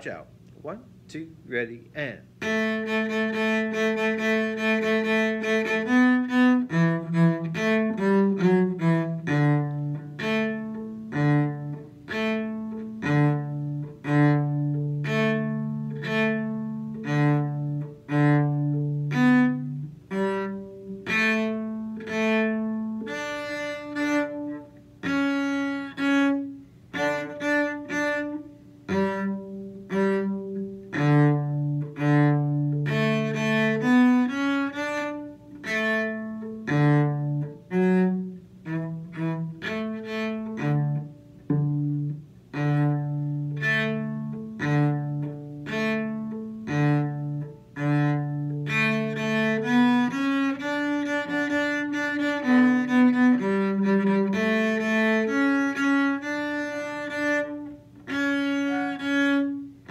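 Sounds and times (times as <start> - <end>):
bowed cello tune: 0.0 - 59.9.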